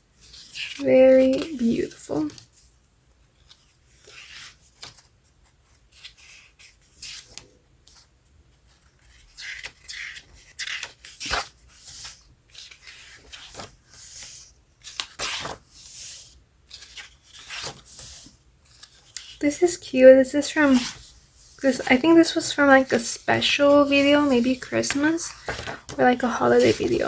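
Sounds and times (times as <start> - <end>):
paper pages rustling: 0.2 - 2.8, 3.4 - 27.0.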